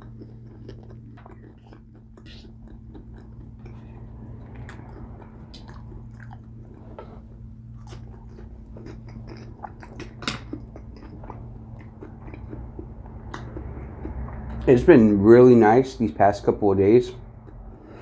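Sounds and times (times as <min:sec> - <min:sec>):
chewing and crunching food: 0:00.0 - 0:15.9, 0:17.0 - 0:18.0
steady low hum: 0:00.0 - 0:18.0.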